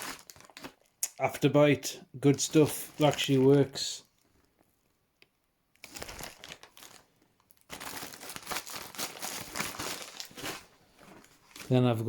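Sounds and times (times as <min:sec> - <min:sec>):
first aid kit items rustling: 0:00.0 - 0:01.0, 0:02.2 - 0:12.0.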